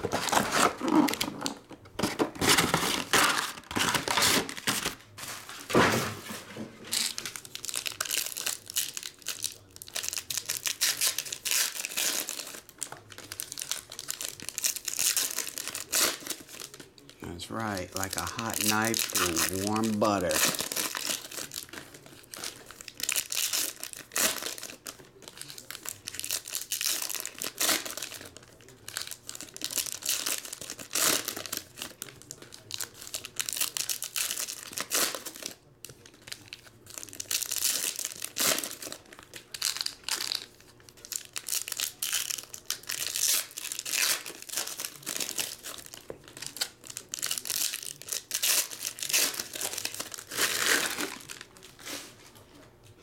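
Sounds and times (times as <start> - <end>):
foil wrappers crinkling and tearing: 0.0 - 52.6.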